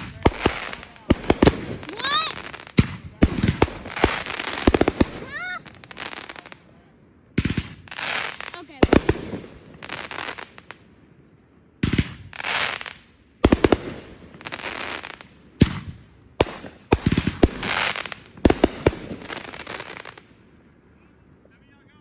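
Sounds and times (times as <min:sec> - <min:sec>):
fireworks banging and crackling: 0:00.0 - 0:06.7, 0:07.3 - 0:10.8, 0:11.8 - 0:20.3.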